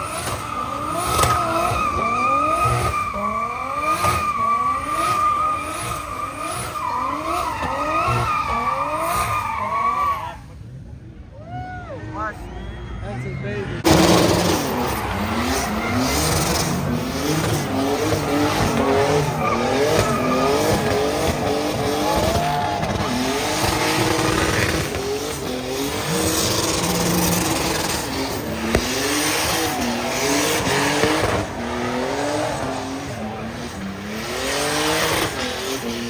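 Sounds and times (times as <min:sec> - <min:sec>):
tyres squealing: 0:00.0 - 0:10.5, 0:12.3 - 0:36.0
car engine revving: 0:00.0 - 0:11.0, 0:13.7 - 0:36.0.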